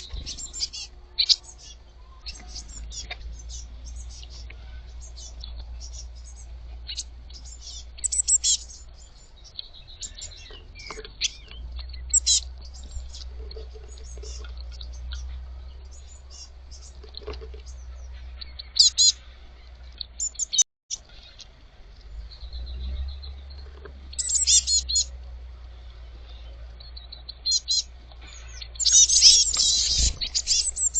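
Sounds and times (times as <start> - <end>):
steady low rumble: 0.0 - 20.2, 21.0 - 30.9
young birds chirping: 0.0 - 30.9.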